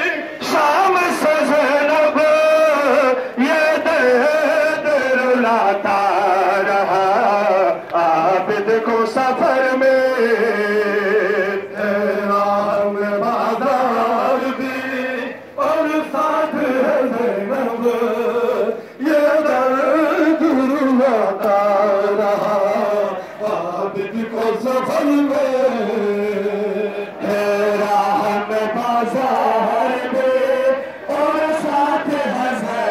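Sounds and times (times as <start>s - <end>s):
men chanting over loudspeakers: 0.0s - 32.9s.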